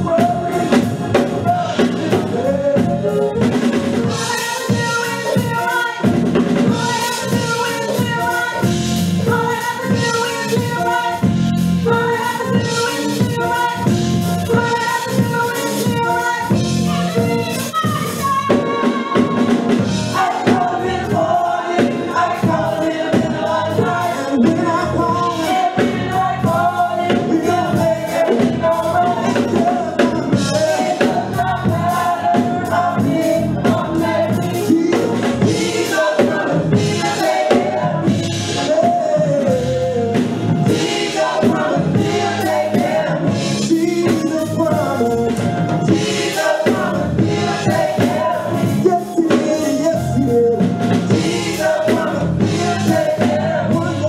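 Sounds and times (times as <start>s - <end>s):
gospel group singing: 0.0s - 54.0s
instrumental backing: 0.0s - 54.0s
steady percussive beat: 0.0s - 54.0s.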